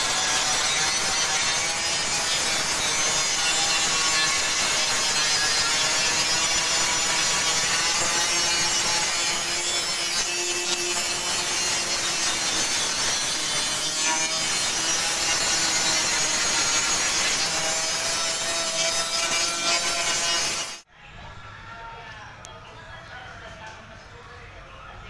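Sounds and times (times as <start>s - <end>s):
angle grinder grinding metal: 0.0s - 20.8s.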